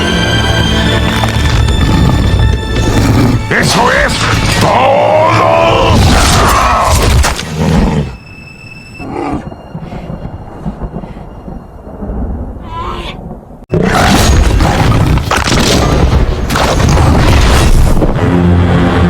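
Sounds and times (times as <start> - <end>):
dramatic film music: 0.0 - 13.4, 14.4 - 19.0.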